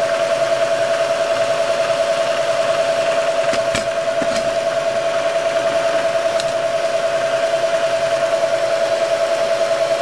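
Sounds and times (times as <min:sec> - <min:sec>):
milling machine cutting metal: 0:00.0 - 0:08.8.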